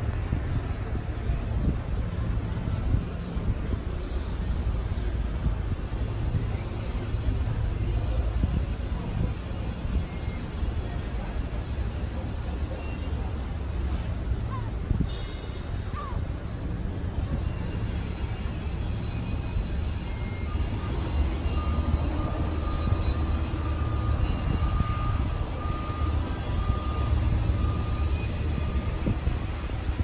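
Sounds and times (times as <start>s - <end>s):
faint high jet whine: 0.0s - 30.0s
jet airliner rumble: 0.0s - 30.0s.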